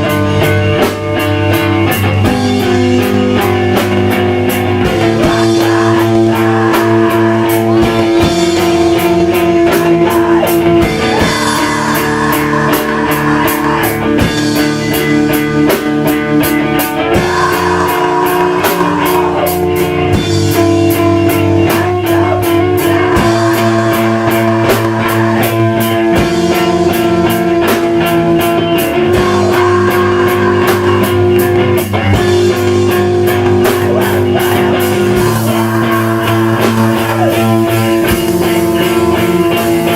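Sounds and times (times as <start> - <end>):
distorted electric guitars: 0.0 - 39.9
fast drums with cymbals: 0.0 - 39.9.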